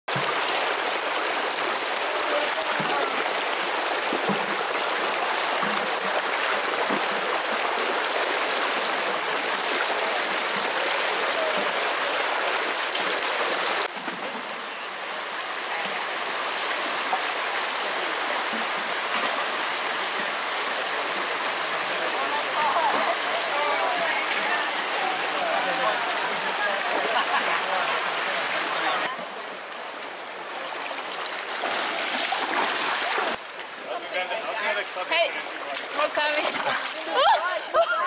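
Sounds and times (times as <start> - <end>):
stream rushing over stones: 0.1 - 38.0.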